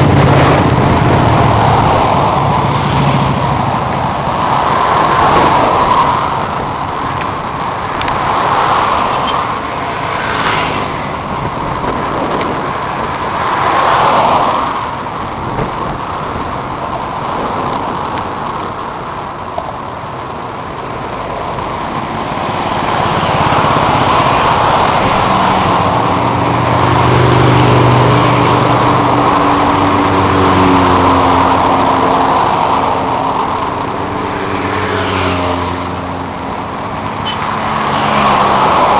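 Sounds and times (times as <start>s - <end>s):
motorcycle engines running: 0.0s - 13.6s, 14.4s - 38.9s
wind and road noise: 0.0s - 38.9s.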